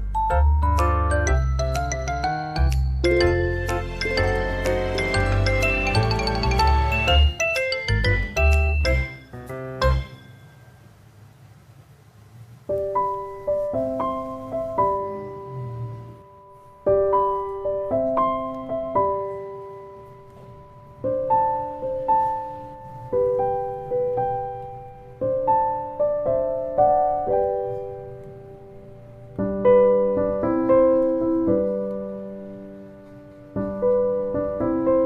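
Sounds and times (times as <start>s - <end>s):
gentle piano music: 0.0s - 10.8s, 12.7s - 35.0s.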